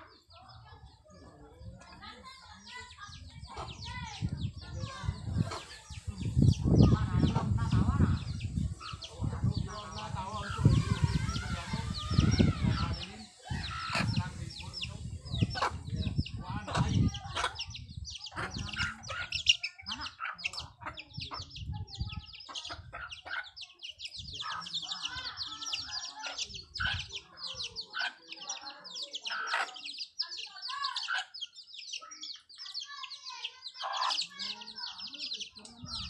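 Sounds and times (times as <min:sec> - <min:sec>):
high-pitched bird chirping: 0:02.6 - 0:36.0
hen clucking: 0:02.7 - 0:32.1, 0:32.9 - 0:36.0.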